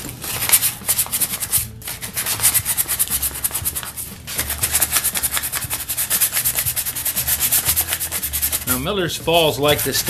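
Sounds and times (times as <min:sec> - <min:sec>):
sandpaper rubbing on metal: 0:00.3 - 0:08.8, 0:09.4 - 0:10.0.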